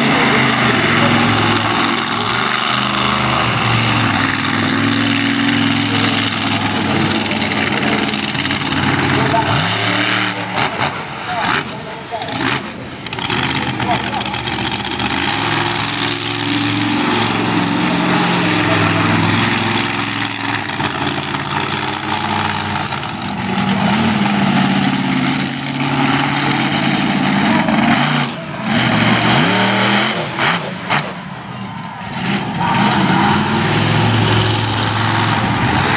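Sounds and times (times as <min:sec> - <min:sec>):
monster truck engine revving: 0:00.0 - 0:35.9.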